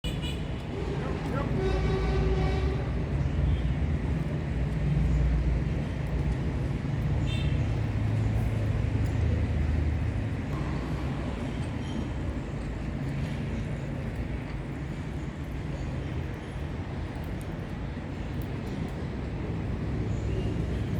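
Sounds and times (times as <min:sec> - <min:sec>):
low rumbling background noise: 0:00.5 - 0:20.9.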